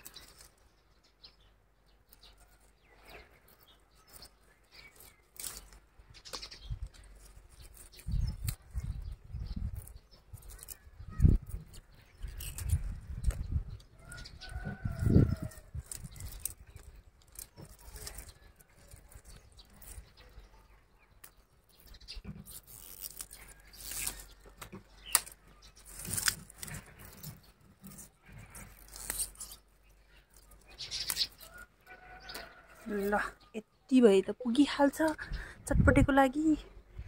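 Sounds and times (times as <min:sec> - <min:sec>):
clicks and rustles: 0:02.1 - 0:20.5, 0:21.1 - 0:32.6.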